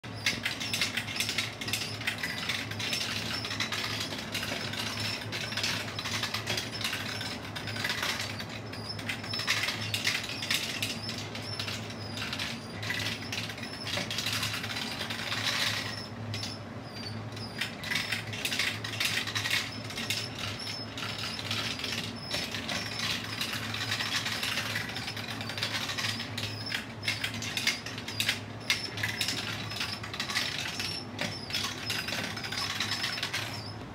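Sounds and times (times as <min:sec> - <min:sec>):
motor humming: 0:00.0 - 0:33.9.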